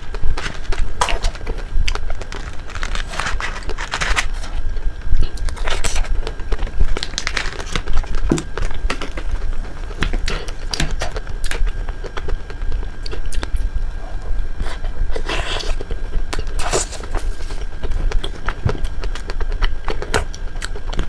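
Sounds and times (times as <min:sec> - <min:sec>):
crunchy bites and chewing: 0:00.0 - 0:21.0
steady low hum: 0:00.0 - 0:21.0.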